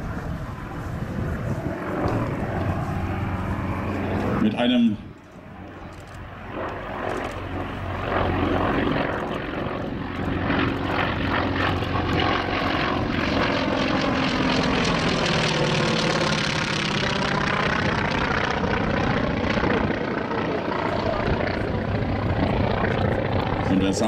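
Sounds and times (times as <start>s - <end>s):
propeller aircraft engine flypast: 0.0s - 24.0s.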